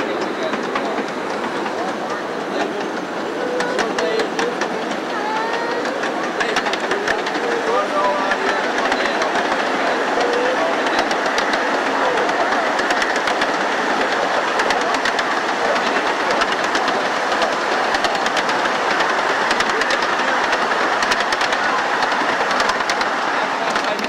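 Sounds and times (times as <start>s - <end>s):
wheels clicking over rail joints: 0.0s - 24.0s
wheels rumbling on rail: 0.0s - 24.0s.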